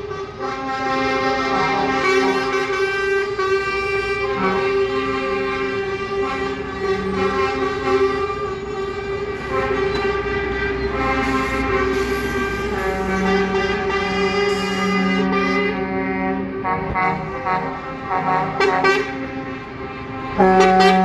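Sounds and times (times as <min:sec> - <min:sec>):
truck air horns sounding: 0:00.0 - 0:21.0.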